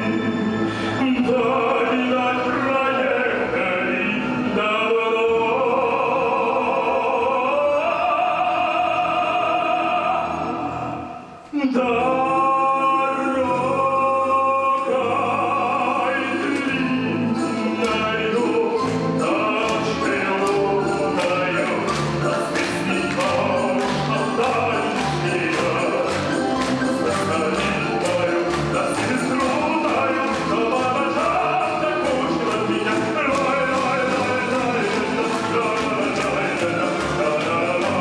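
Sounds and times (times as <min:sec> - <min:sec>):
orchestra playing: 0:00.0 - 0:38.0
person singing: 0:00.0 - 0:38.0.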